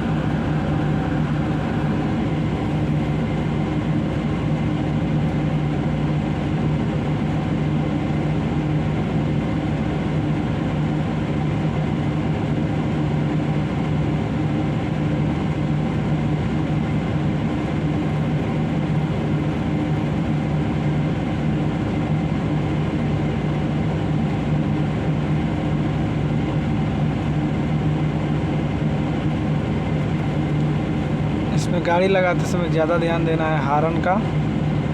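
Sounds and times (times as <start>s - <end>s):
heavy diesel engine droning: 0.0s - 34.9s.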